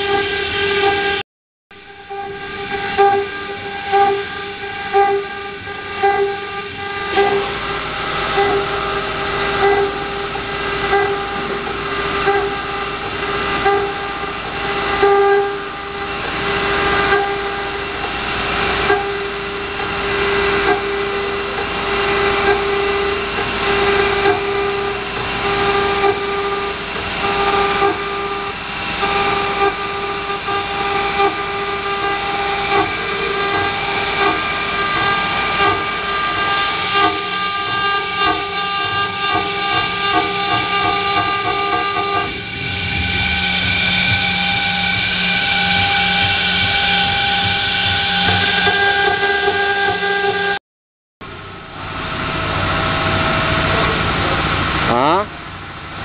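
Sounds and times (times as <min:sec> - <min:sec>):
router spindle whine: 0:00.0 - 0:01.2, 0:01.8 - 0:50.6, 0:51.3 - 0:56.0.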